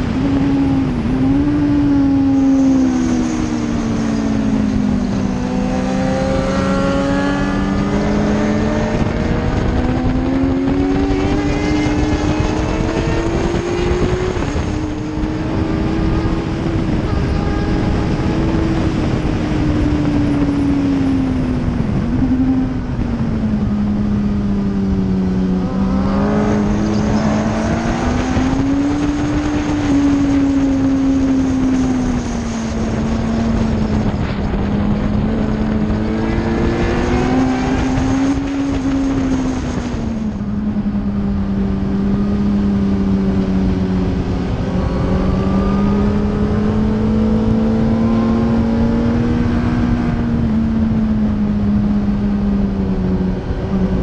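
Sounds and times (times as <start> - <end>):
motorcycle engine at high revs: 0.0 - 54.0
wind rush on microphone: 0.0 - 54.0.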